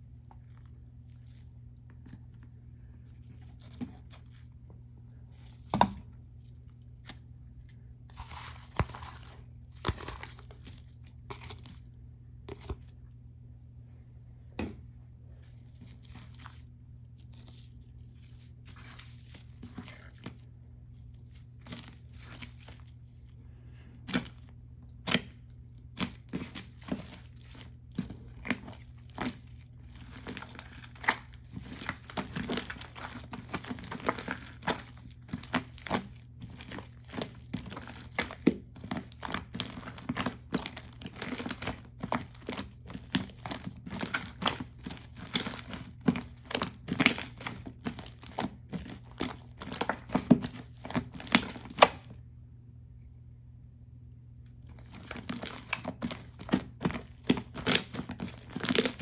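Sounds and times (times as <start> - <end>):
crinkling handling noise: 0.0 - 13.2, 14.6 - 52.2, 54.4 - 59.0
steady low hum: 0.0 - 59.0.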